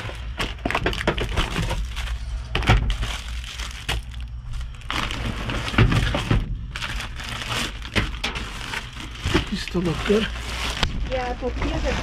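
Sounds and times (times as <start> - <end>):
plastic packaging crinkling: 0.0 - 11.3
steady low hum: 0.0 - 12.0.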